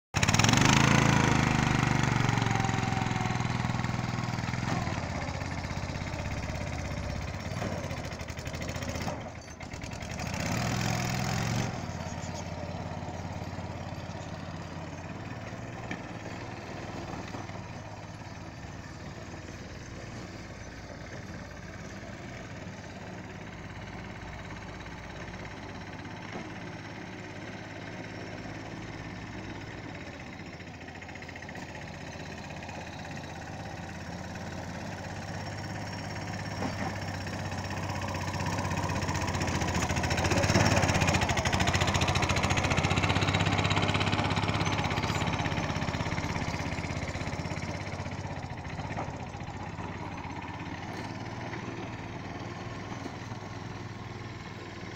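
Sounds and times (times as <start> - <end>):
ride-on lawn mower engine: 0.2 - 54.9.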